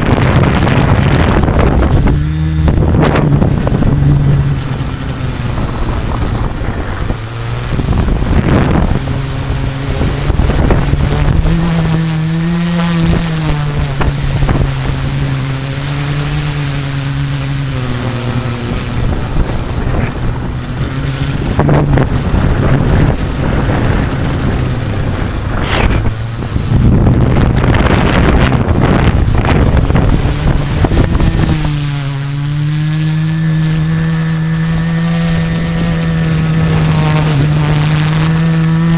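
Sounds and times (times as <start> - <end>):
drone motors humming: 0.0 - 38.9
wind on microphone: 0.0 - 38.9.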